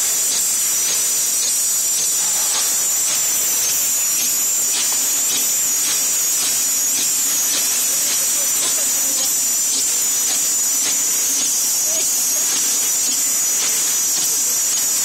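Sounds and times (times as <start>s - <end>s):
wrapping machine hissing: 0.0s - 15.0s
faint machine clicks: 0.3s - 15.0s.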